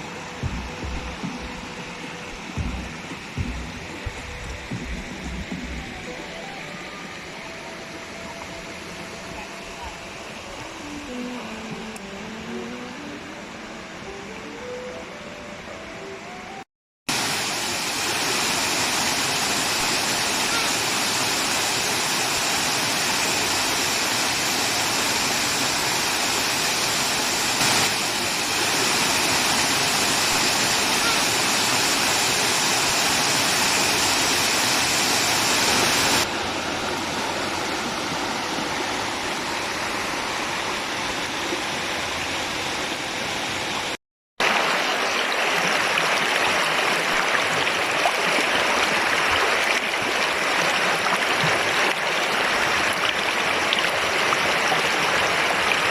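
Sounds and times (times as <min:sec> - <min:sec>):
falling and flowing water: 0:00.0 - 0:16.2, 0:17.1 - 0:55.9.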